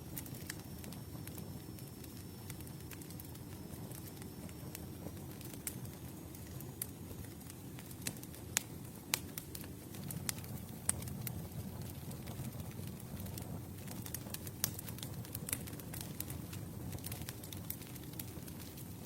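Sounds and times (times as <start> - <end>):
campfire flames rumbling: 0.0 - 19.0
wood crackles and pops: 0.0 - 19.0.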